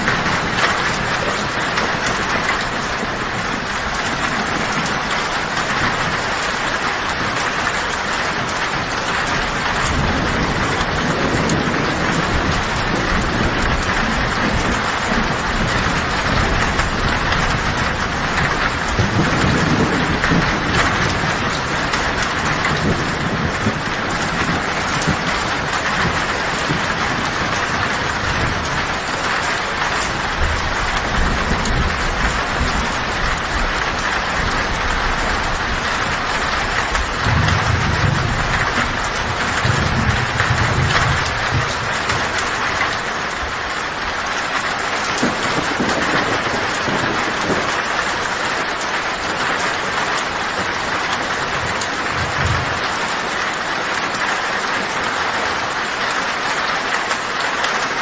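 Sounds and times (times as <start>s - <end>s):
thunder rumbling: 0.0s - 56.5s
heavy rain on a tin roof: 0.0s - 58.0s.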